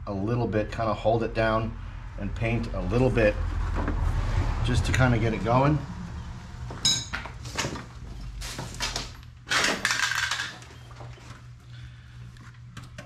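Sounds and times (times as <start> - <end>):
steady low hum: 0.0 - 9.5, 10.6 - 13.0.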